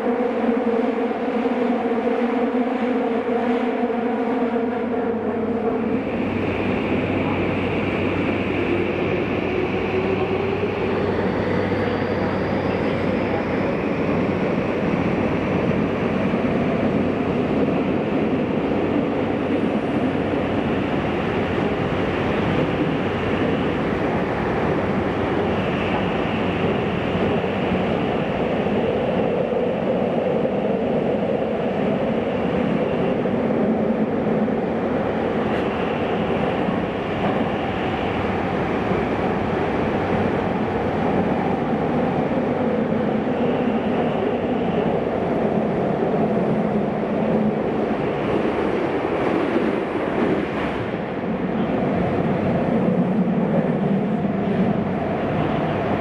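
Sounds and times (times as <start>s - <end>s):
train wheels rumbling in tunnel: 0.0s - 56.0s.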